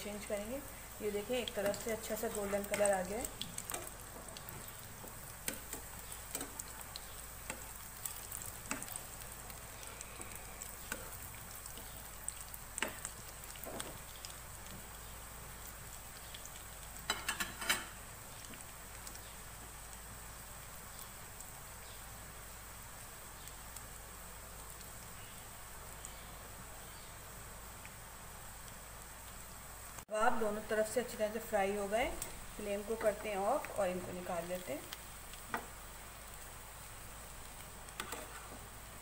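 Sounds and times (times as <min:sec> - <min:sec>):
food sizzling in oil: 0:00.0 - 0:39.0.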